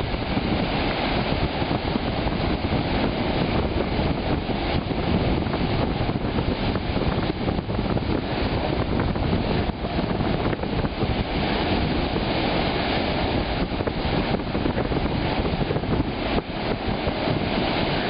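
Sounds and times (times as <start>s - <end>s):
waves breaking: 0.0s - 18.0s
wind buffeting microphone: 0.0s - 18.0s.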